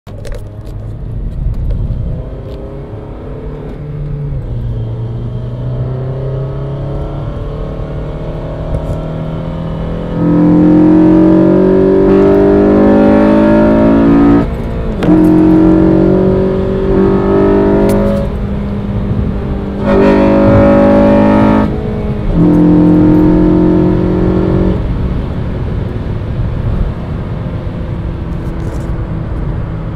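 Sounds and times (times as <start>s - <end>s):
car engine accelerating: 0.2s - 29.9s.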